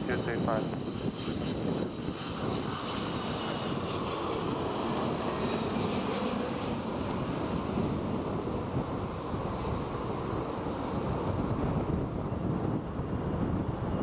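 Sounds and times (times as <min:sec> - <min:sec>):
jet engines: 0:00.0 - 0:14.0
wind buffeting microphone: 0:00.0 - 0:14.0.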